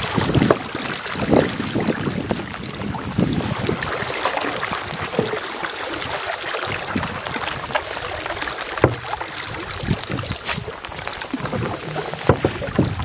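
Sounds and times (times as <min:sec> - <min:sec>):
paddle swishing through water: 0:00.0 - 0:13.0.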